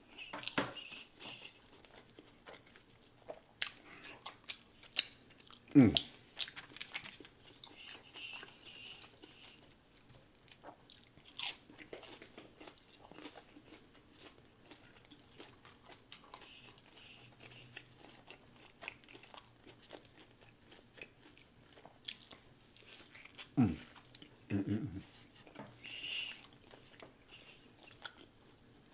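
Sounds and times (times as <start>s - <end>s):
chewing and biting food: 0.1s - 24.5s, 25.1s - 28.6s.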